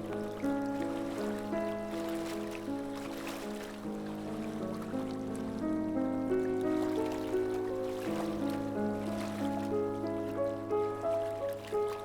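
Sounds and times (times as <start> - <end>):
calm instrumental music: 0.0 - 12.0
sea waves: 0.0 - 12.0.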